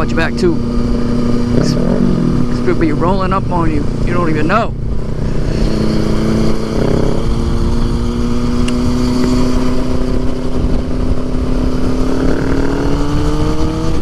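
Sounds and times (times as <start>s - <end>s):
motorcycle engine: 0.0s - 14.0s
wind rush on microphone: 0.0s - 14.0s.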